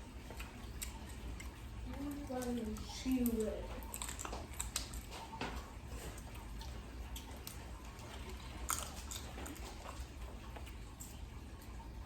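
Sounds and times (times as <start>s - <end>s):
person chewing: 0.0s - 11.9s
low steady hum: 0.0s - 12.0s.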